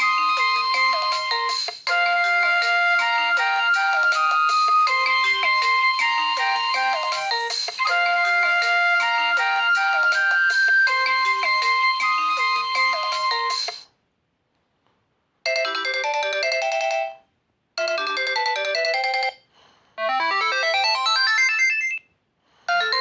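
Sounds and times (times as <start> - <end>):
phone ringtone tunes: 0.0 - 13.8, 15.5 - 17.2, 17.8 - 19.4, 20.0 - 22.0, 22.7 - 23.0.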